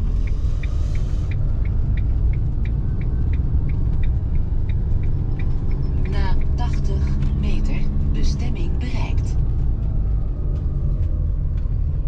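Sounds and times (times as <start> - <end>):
light regular ticking: 0.0 - 12.0
van engine and tyre rumble: 0.0 - 12.0.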